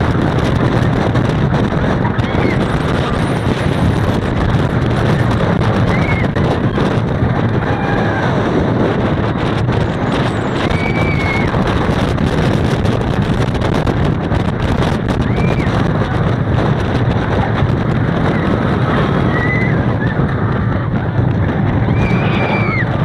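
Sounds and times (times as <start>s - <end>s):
roller coaster rumbling on track: 0.0s - 23.0s
wind on microphone: 0.0s - 23.0s.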